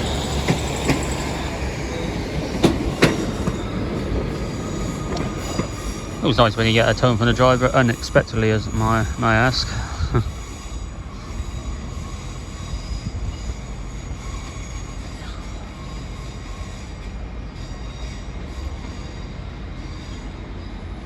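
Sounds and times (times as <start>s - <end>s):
diesel train engines rumbling: 0.0s - 21.0s.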